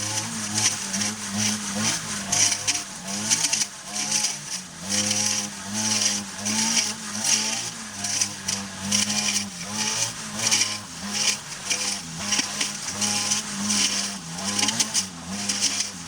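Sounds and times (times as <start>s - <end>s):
brush cutter engine revving: 0.0s - 16.0s.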